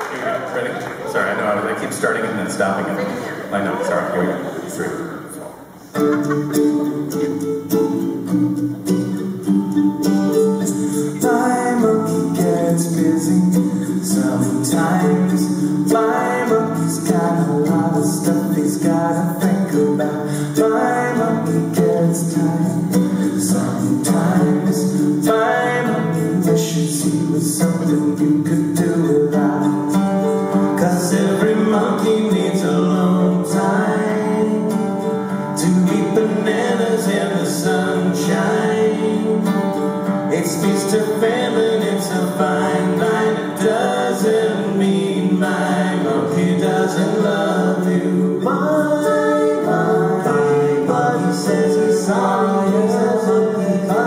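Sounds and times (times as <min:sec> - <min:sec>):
acoustic guitar: 0:00.0 - 0:54.0
voices singing together: 0:03.2 - 0:54.0
ukulele: 0:05.7 - 0:54.0.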